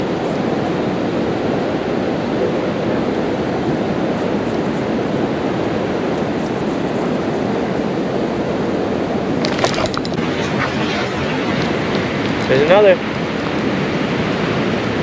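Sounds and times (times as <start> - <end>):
flowing creek water: 0.0 - 15.0.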